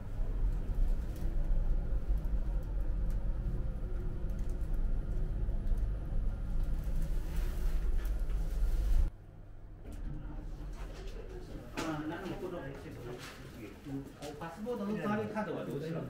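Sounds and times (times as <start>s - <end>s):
elevator low rumble: 0.0s - 13.6s.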